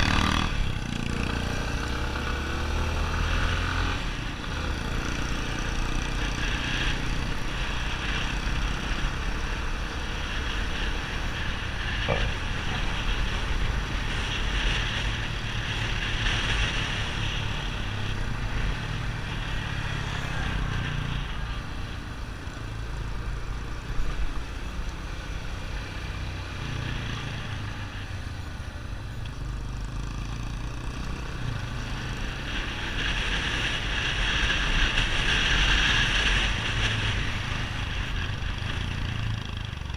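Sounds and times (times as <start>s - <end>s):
motorcycle engine running: 4.0s - 39.9s.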